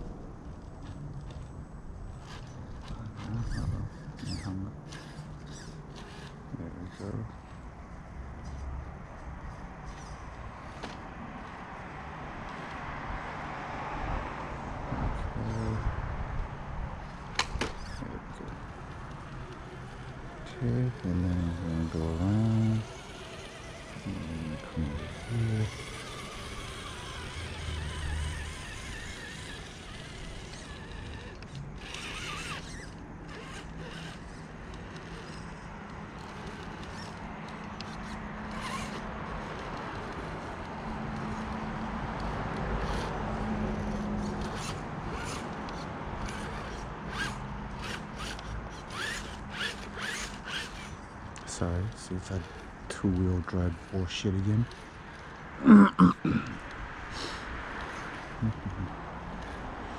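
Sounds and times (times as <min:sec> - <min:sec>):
tires scraping on rocks: 0:00.0 - 0:07.8, 0:16.9 - 0:59.9
electric motor and gears whirring: 0:00.0 - 0:13.8, 0:15.2 - 0:59.9.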